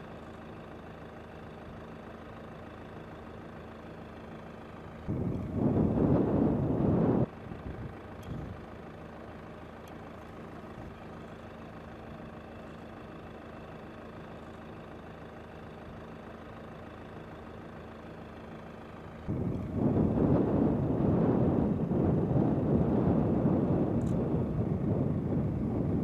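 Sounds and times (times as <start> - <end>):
low hum of held tones: 0.0 - 26.0.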